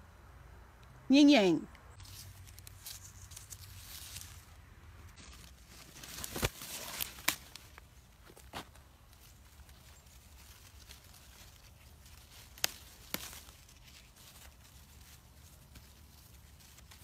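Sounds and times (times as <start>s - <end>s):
rustling of plant leaves: 1.4s - 17.0s.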